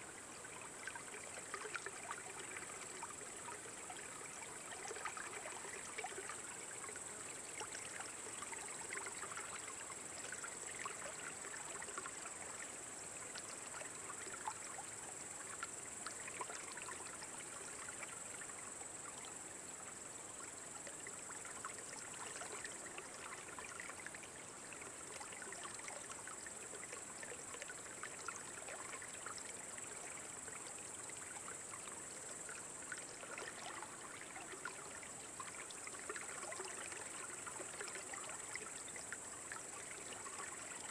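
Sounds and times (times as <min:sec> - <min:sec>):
trickling water: 0:00.0 - 0:40.9.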